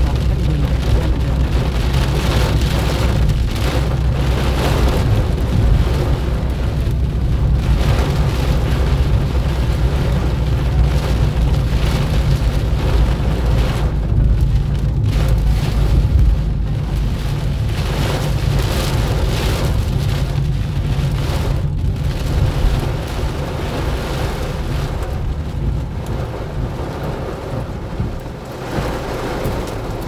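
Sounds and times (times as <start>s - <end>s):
heavy rain on a car: 0.0s - 30.0s
road and engine rumble: 0.0s - 30.0s.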